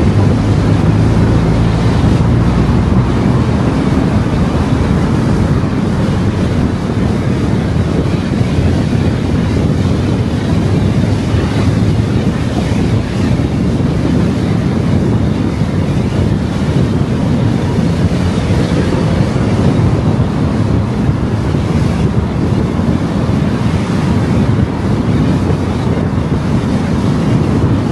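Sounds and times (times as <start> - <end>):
car tyre and wind noise: 0.0 - 27.9.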